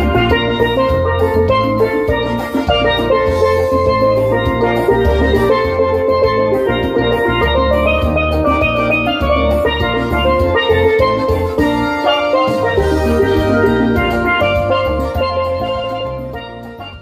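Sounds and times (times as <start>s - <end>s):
bright melody: 0.0s - 17.0s
recurring bass beat: 0.0s - 17.0s.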